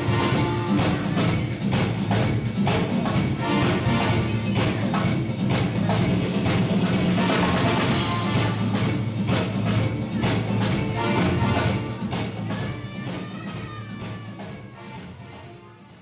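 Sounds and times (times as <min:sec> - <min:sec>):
live dance band playing: 0:00.0 - 0:16.0.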